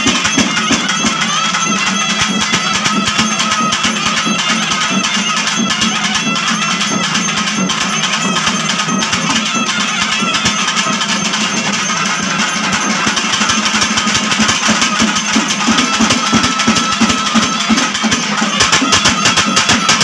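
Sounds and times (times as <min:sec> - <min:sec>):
barrel drums beaten fast: 0:00.0 - 0:20.0
wind instruments holding notes: 0:00.0 - 0:20.0.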